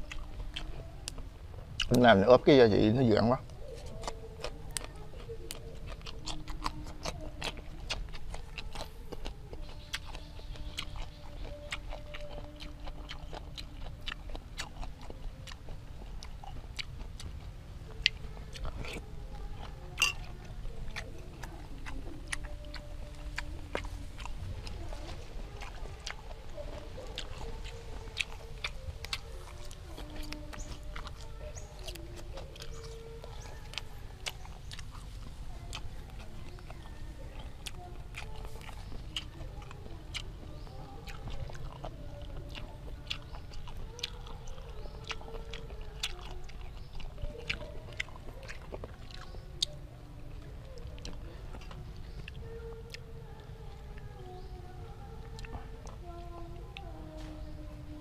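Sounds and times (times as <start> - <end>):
chewing and mouth clicks: 0.0 - 58.0.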